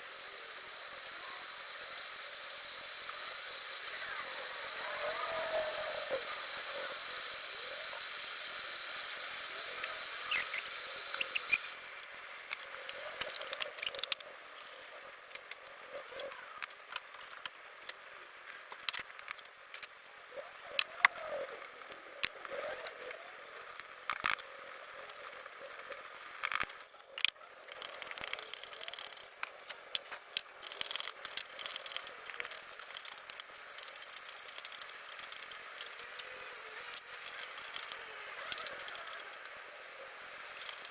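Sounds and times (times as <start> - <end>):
steady high hiss: 0.0 - 26.9, 27.6 - 40.9.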